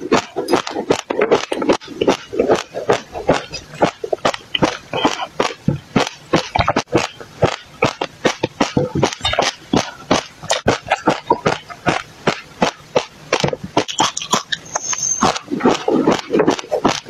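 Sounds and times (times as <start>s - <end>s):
chewing crunchy seeds: 0.0s - 17.0s.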